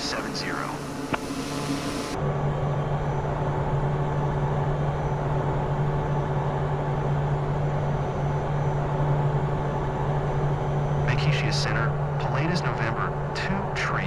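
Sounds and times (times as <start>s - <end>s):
aircraft engine and propeller drone: 0.0s - 14.0s.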